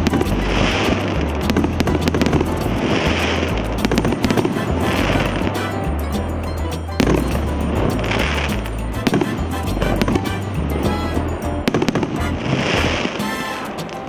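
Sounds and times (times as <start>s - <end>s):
background music with bass line: 0.0s - 14.0s
fireworks bangs: 0.0s - 14.0s.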